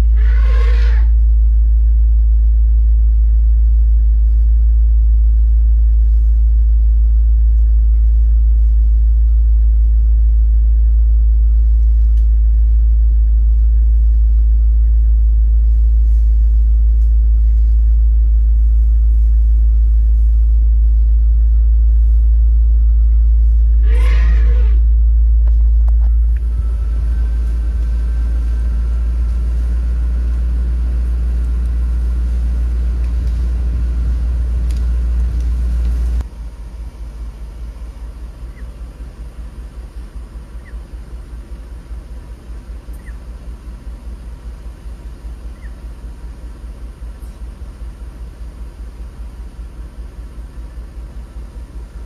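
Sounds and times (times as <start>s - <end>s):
vehicle engine idling: 0.0s - 52.0s.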